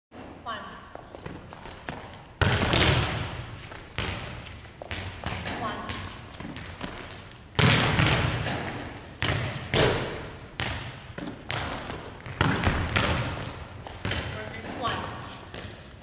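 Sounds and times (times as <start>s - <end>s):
volleyballs smacking and bouncing: 0.9s - 16.0s.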